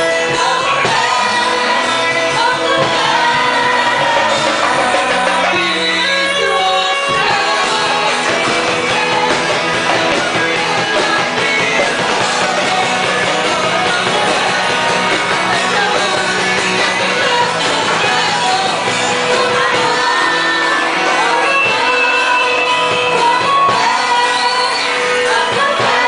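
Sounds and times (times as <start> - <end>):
rock band playing with singing: 0.0 - 26.0.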